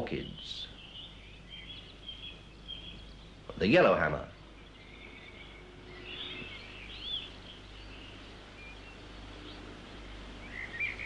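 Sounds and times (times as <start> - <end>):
faint low hum: 0.0 - 11.0
songbird chirping and twittering: 0.0 - 11.0.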